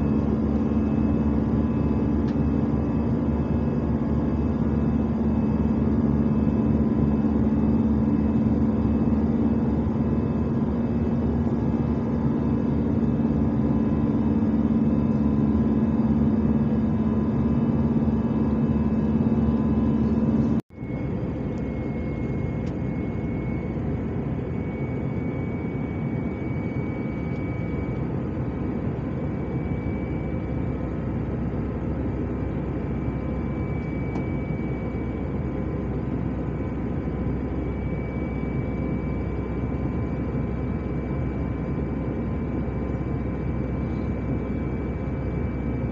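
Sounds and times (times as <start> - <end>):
jet engine and airflow drone: 0.0 - 45.9.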